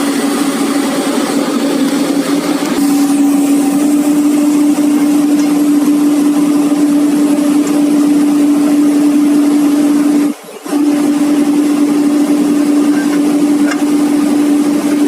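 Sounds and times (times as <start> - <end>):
excavator engine idling: 0.0 - 15.0.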